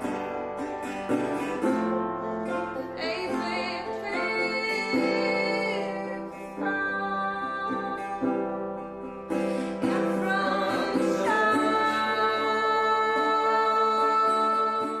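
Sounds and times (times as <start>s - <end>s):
song with singing over plucked strings: 0.0s - 15.0s.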